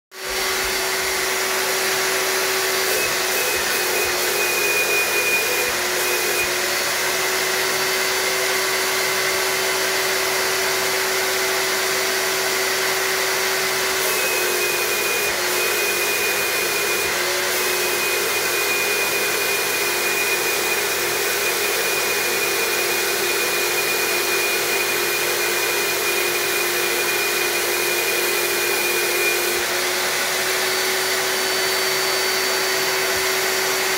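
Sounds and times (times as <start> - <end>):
paint sprayer turbine whine: 0.1 - 33.9.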